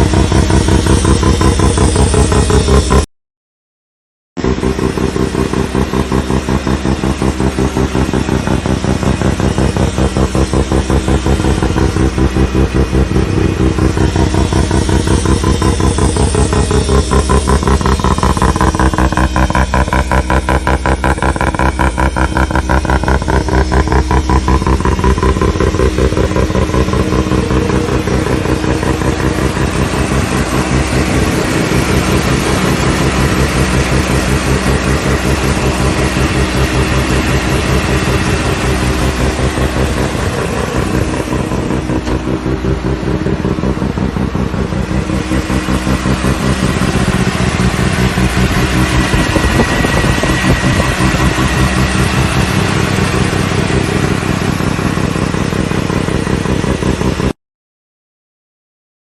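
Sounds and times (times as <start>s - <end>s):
rotary engine exhaust pulsing: 0.0s - 3.1s, 4.4s - 57.4s.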